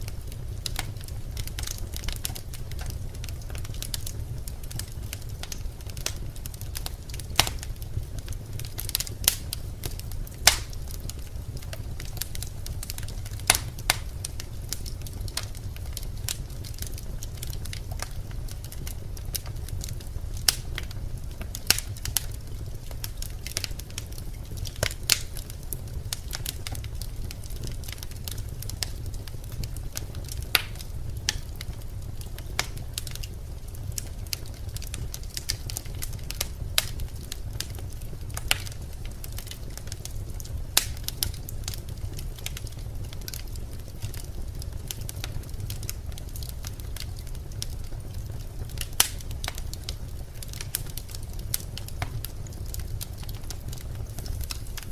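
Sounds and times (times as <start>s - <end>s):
logs crackling and popping in fire: 0.0s - 54.9s
low rumble of flames: 0.0s - 54.9s.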